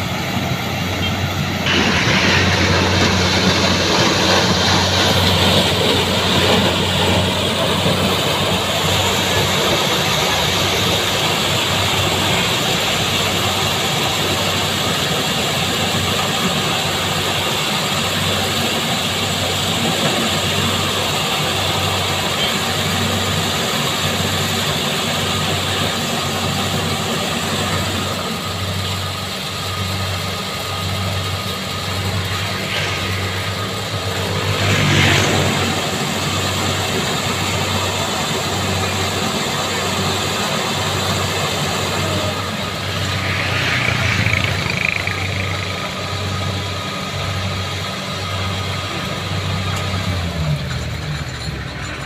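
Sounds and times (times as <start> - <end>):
combine harvester engine throbbing: 0.0 - 52.0.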